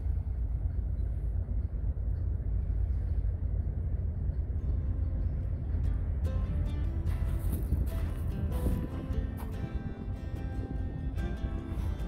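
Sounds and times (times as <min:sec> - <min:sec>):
container ship rumble: 0:00.0 - 0:12.0.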